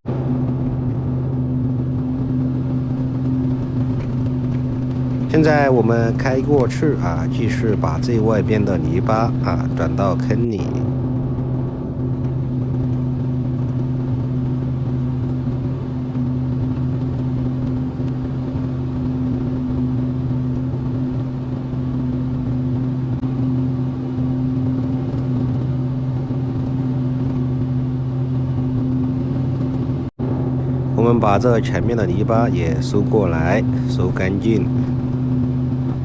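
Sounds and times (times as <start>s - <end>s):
excavator diesel engine droning: 0.1s - 36.0s.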